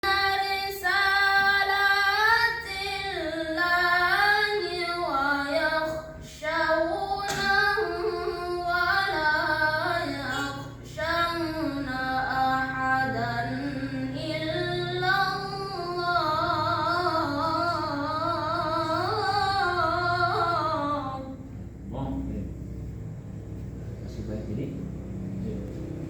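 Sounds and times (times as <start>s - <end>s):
child chanting: 0.0s - 21.5s.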